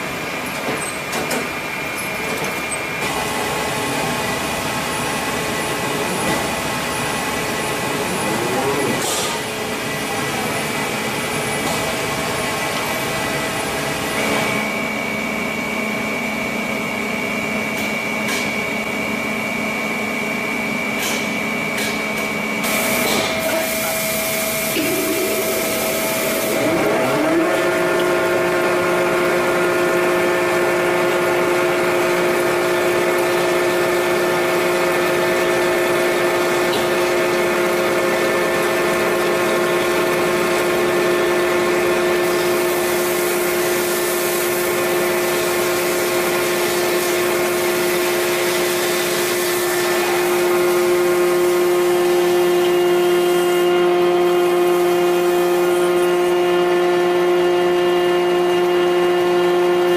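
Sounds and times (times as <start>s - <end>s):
metalworking machinery whining: 0.0s - 59.9s.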